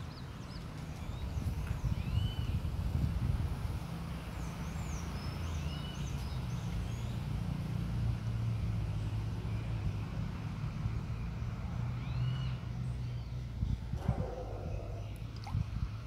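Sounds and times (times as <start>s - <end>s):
songbirds chirping: 0.0s - 2.9s, 3.6s - 16.0s
low engine-like rumble: 0.0s - 16.0s.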